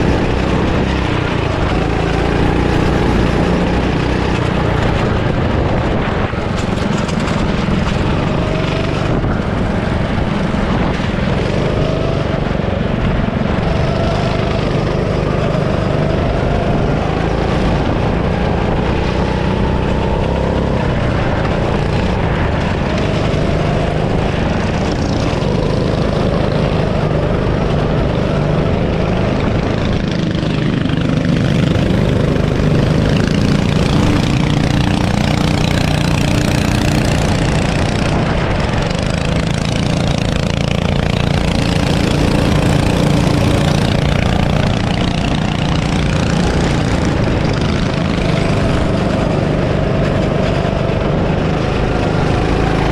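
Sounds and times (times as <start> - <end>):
go-kart engine running hard: 0.0 - 52.9
rushing noise: 0.0 - 52.9.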